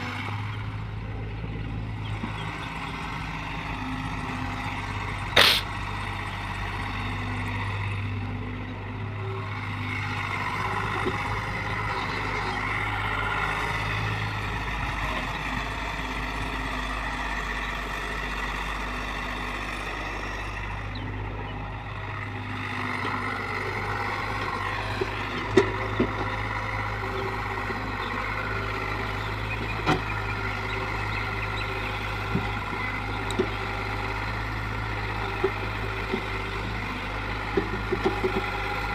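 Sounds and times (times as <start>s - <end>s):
heavy diesel engine humming: 0.0s - 38.9s.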